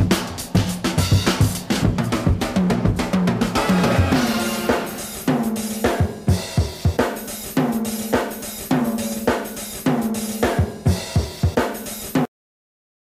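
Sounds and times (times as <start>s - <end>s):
drum beat: 0.0s - 12.3s.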